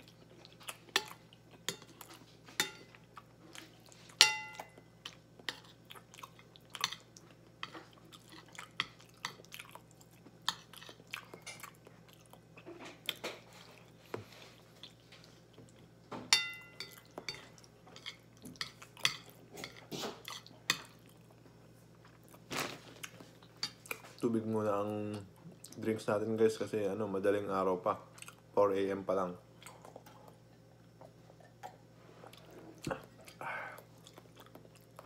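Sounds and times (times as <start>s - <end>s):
man chewing food: 0.0s - 24.2s, 28.1s - 28.5s, 29.5s - 35.0s.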